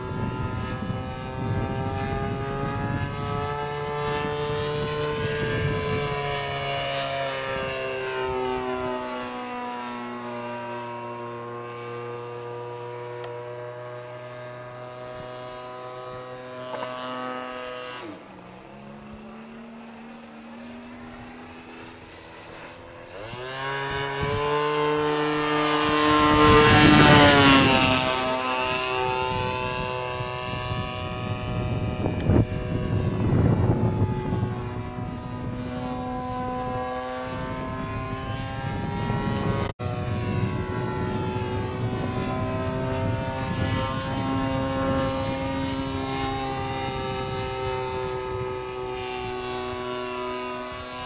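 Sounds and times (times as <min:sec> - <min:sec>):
model plane engine in flight: 0:00.0 - 0:51.0.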